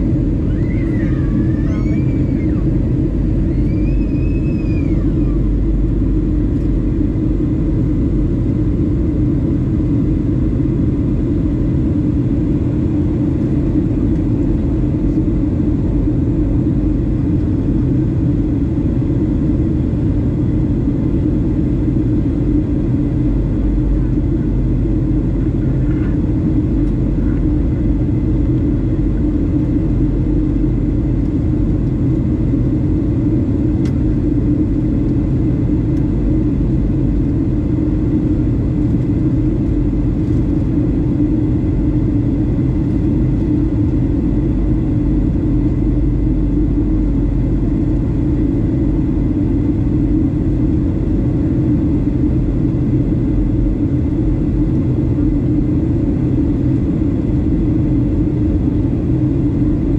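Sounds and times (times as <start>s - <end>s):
aircraft cabin engine rumble: 0.0s - 59.9s.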